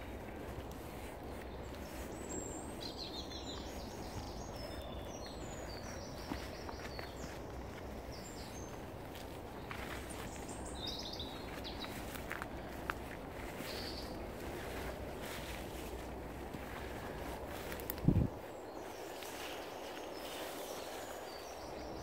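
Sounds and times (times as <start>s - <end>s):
low outdoor rumble: 0.0s - 20.0s
footsteps through undergrowth: 0.0s - 22.0s
songbirds chirping: 0.0s - 22.0s.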